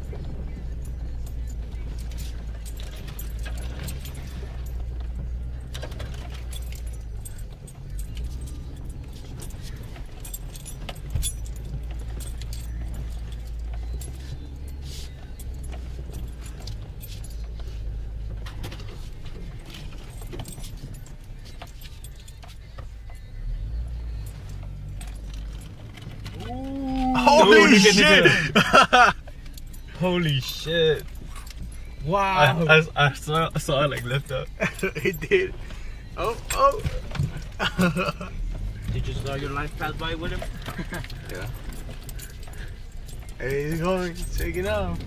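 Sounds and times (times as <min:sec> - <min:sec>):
off-road vehicle engine rumble: 0:00.0 - 0:45.0.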